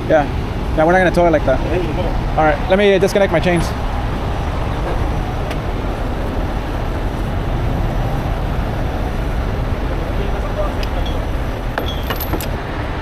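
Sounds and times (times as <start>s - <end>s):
truck diesel engine running: 0.4s - 12.8s.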